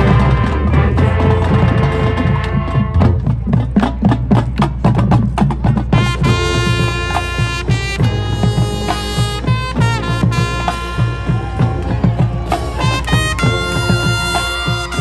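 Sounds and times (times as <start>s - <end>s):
brass held chords: 0.0s - 3.2s, 5.9s - 15.0s
drumline percussion: 0.0s - 15.0s.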